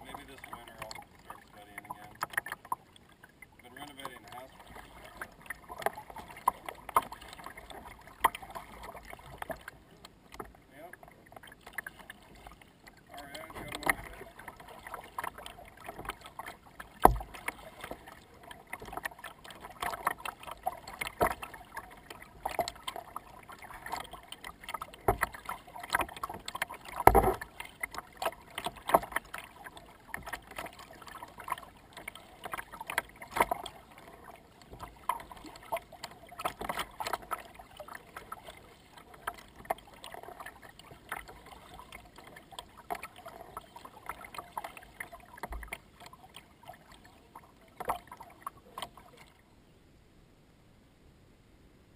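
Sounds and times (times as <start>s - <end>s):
water splashing against kayak: 0.0s - 49.5s.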